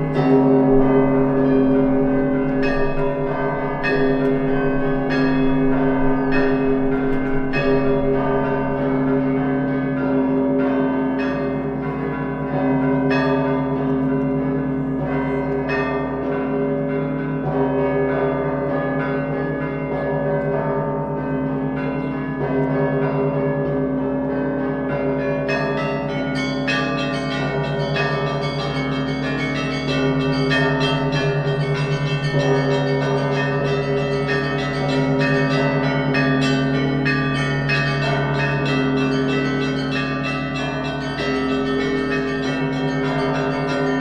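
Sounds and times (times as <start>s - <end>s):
deep church bells humming: 0.0s - 44.0s.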